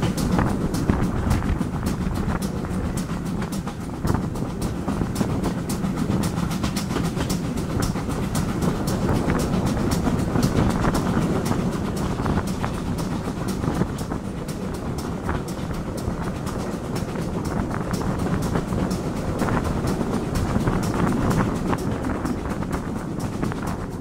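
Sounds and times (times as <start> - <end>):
rapid sharp beats: 0.0 - 24.0
train wheels rumbling on track: 0.0 - 24.0.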